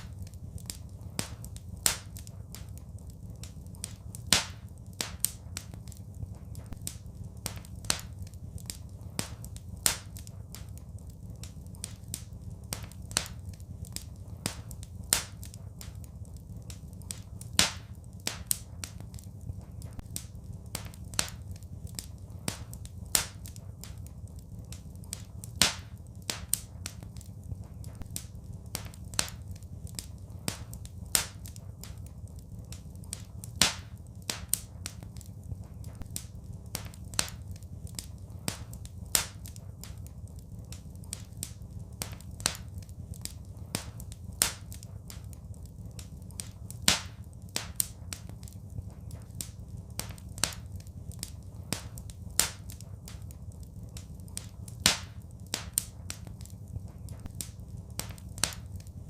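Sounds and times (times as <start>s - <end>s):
low steady rumble: 0.0s - 59.0s
wood fire crackling: 0.0s - 59.0s.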